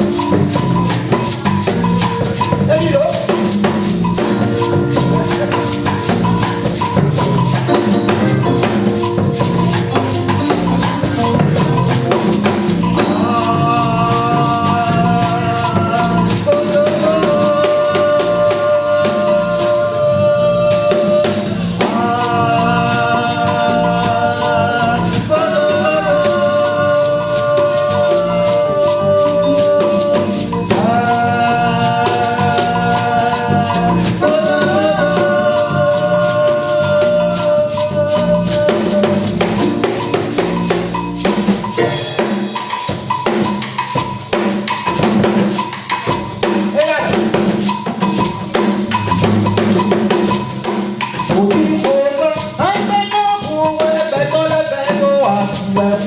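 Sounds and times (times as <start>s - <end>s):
drums: 0.0s - 56.0s
shaker rattle percussion: 0.0s - 56.0s.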